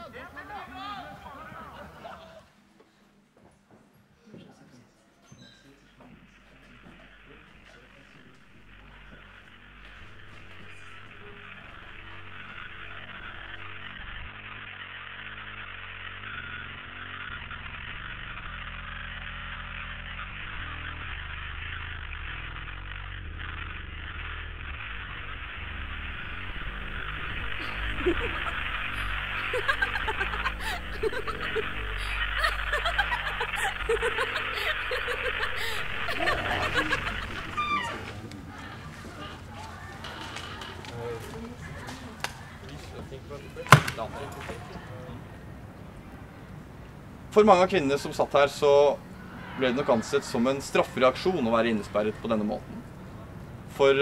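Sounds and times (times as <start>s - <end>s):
voices murmuring and chuckling: 0.0s - 3.0s, 4.2s - 15.6s, 25.1s - 54.0s
low steady hum: 5.6s - 49.6s
low buzzing electronic drone: 5.6s - 54.0s.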